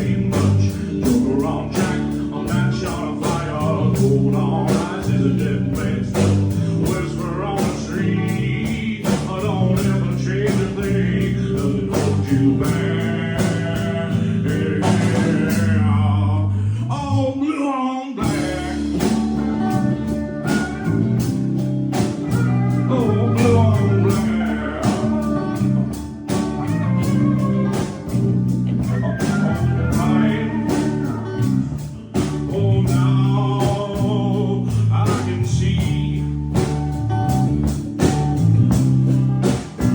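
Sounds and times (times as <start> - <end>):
steady drum beat: 0.0 - 16.0, 18.2 - 39.9
bass line: 0.0 - 17.3, 18.2 - 39.9
man singing: 0.0 - 21.3, 22.0 - 28.2, 28.8 - 36.9
guitar: 0.0 - 39.9.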